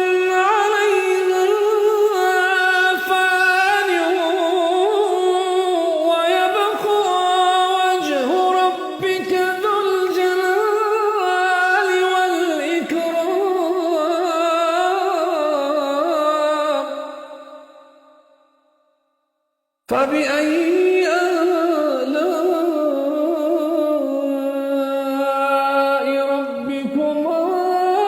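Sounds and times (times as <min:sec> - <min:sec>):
man chanting recitation: 0:00.0 - 0:17.3, 0:19.9 - 0:28.0.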